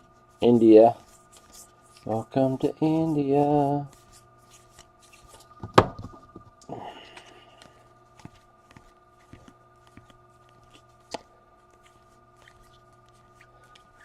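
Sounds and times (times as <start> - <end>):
trading cards rustling: 0.4 - 5.6, 7.0 - 14.0.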